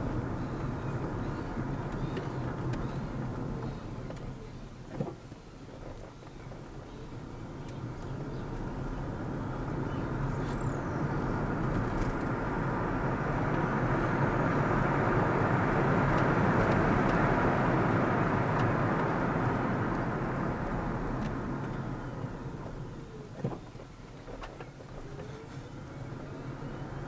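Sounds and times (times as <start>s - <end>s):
car tyre and engine noise: 0.0s - 27.0s.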